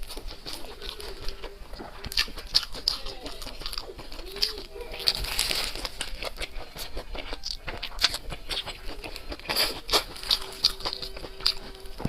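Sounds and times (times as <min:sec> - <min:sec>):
crisp crunchy chewing: 0:00.0 - 0:12.0.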